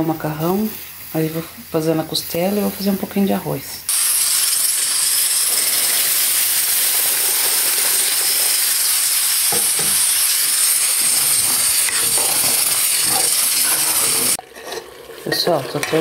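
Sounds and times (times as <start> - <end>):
steam hissing and pots sizzling: 0.0 - 16.0.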